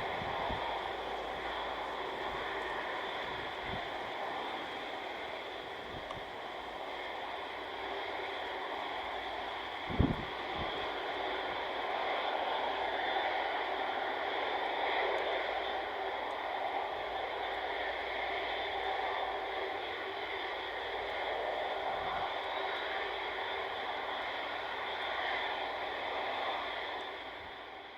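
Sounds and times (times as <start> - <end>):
jet engines running: 0.0 - 27.9.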